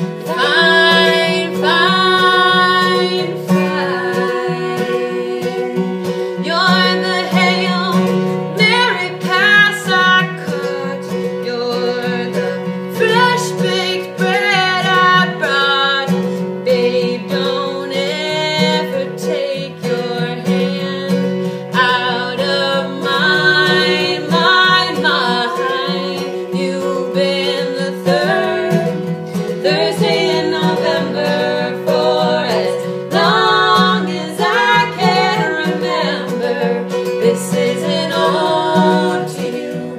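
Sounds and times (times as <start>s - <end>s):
acoustic guitar: 0.0s - 39.9s
women singing together: 0.0s - 39.9s.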